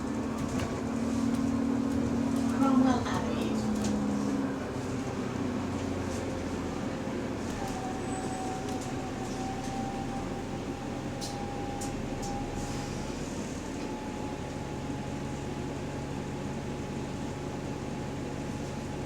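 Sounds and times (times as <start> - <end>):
bus running noise: 0.0 - 19.0.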